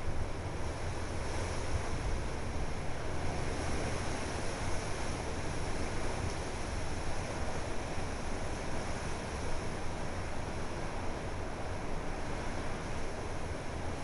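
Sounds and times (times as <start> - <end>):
wind rushing through trees: 0.0 - 14.0.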